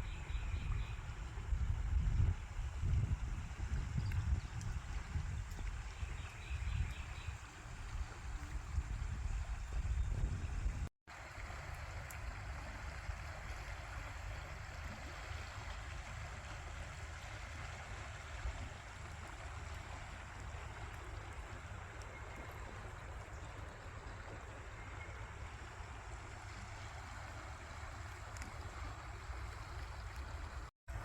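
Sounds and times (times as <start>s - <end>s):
wind rumble on microphone: 0.0s - 26.6s
running water rushing: 1.0s - 31.0s.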